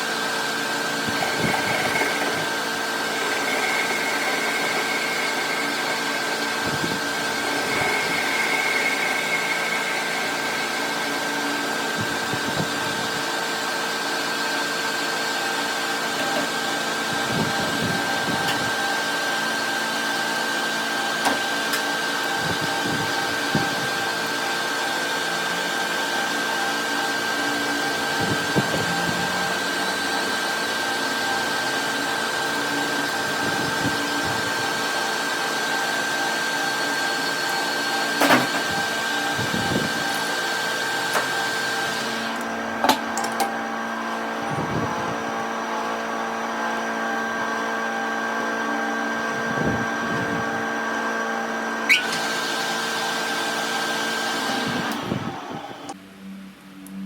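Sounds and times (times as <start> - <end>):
machine tool whining: 0.0 - 57.0.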